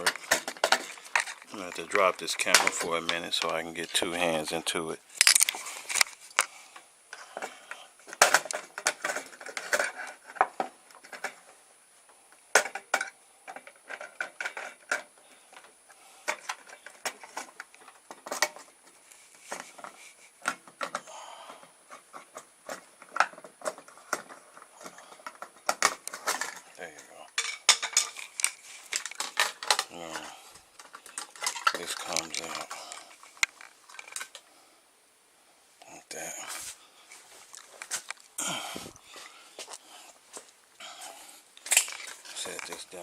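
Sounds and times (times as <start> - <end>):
plastic parts clicking and rattling: 0.0 - 11.6, 12.3 - 34.5, 37.1 - 39.0, 41.6 - 43.0.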